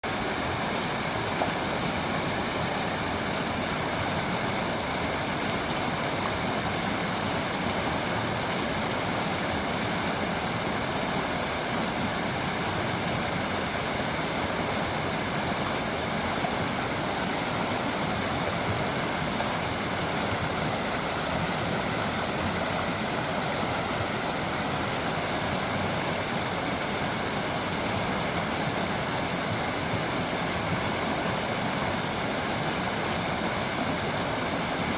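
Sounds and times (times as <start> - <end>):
creek water babbling over stones: 0.0 - 34.9.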